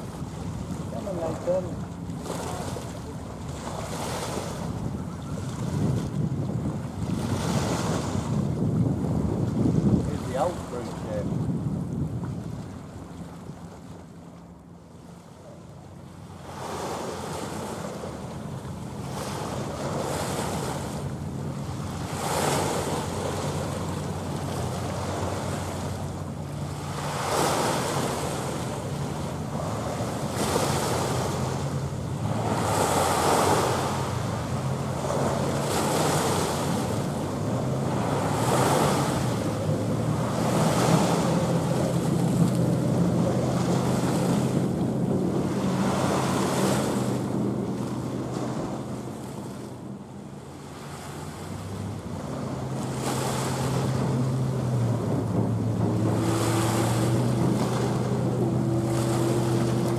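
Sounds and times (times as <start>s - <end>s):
small waves washing ashore: 0.0s - 59.9s.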